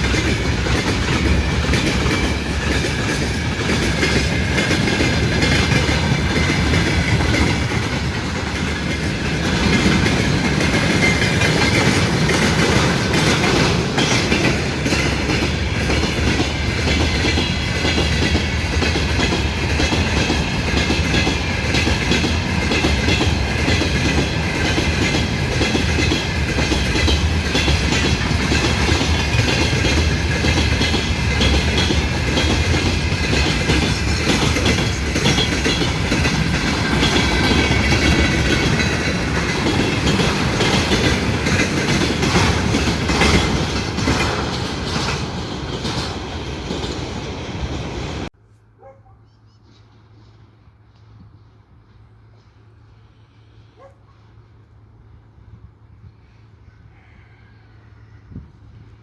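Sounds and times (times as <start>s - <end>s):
train wheels clattering over rail joints: 0.0s - 48.0s.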